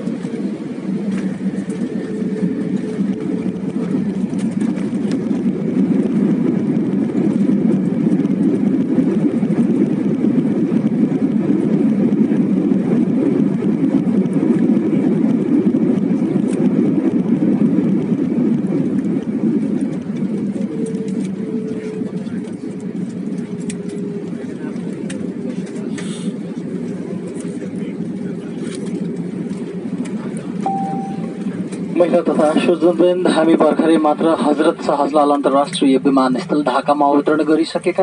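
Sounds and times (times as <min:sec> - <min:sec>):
airplane cabin engine rushing: 0:00.0 - 0:38.0.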